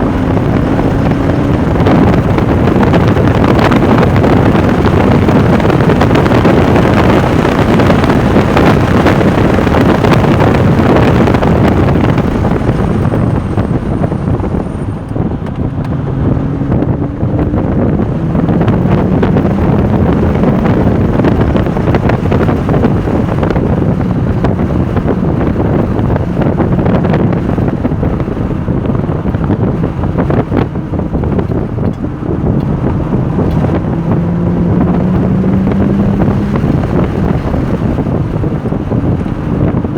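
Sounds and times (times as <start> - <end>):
car engine running hard: 0.0 - 39.9
wind buffeting microphone: 0.0 - 39.9.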